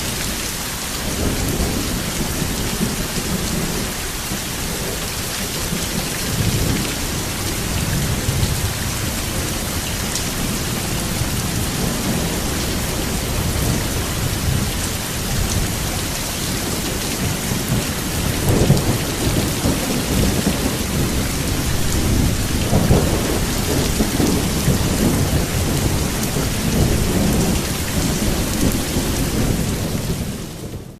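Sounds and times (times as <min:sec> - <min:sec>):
heavy rain: 0:00.0 - 0:30.9
rolling thunder: 0:01.0 - 0:30.9.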